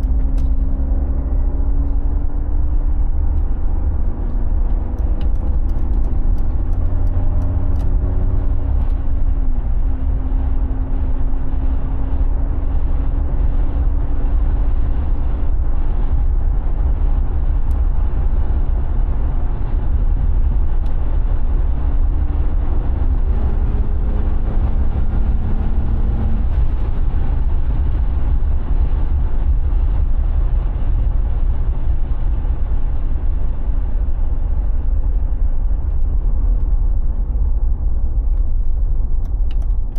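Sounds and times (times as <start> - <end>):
engine low rumble: 0.0 - 39.9.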